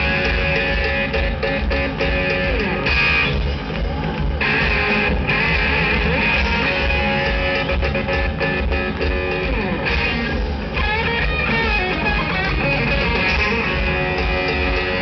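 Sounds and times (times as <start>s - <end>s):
bass guitar: 0.0s - 15.0s
electric guitars: 0.0s - 15.0s
steady drum beat: 0.0s - 15.0s.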